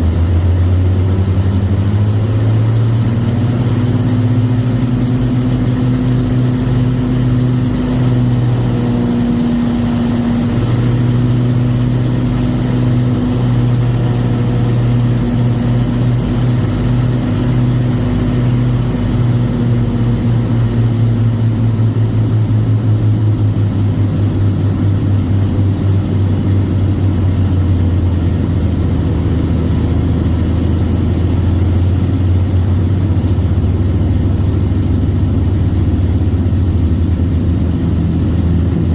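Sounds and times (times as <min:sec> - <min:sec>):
aircraft piston engines running: 0:00.0 - 0:38.9.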